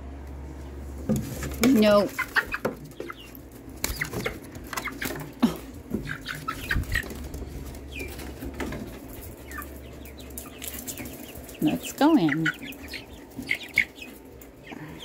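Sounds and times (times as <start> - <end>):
chicks peeping and clucking: 0.3 - 15.0.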